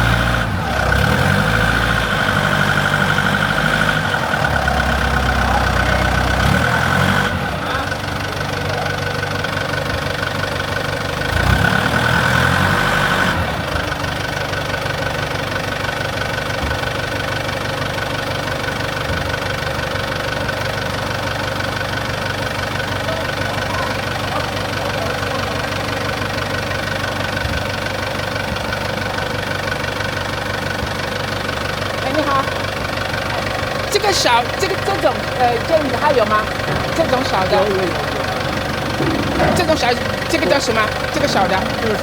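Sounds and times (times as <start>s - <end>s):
excavator engine idling: 0.0s - 42.0s.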